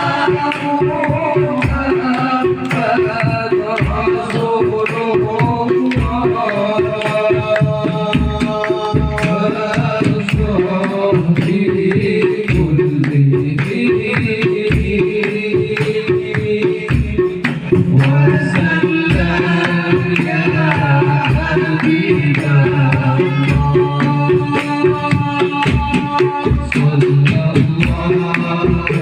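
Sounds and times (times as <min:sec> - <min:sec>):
drums beating: 0:00.0 - 0:29.0
sustained melody line: 0:00.0 - 0:29.0.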